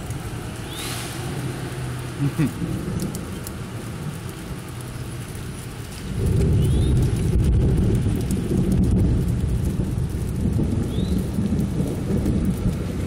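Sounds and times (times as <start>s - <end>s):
low rumble: 0.0s - 13.0s
steady rain falling: 0.0s - 13.0s.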